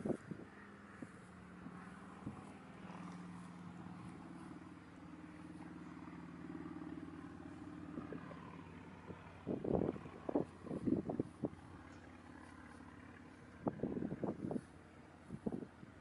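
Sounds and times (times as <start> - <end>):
faint engine hum: 0.0 - 16.0.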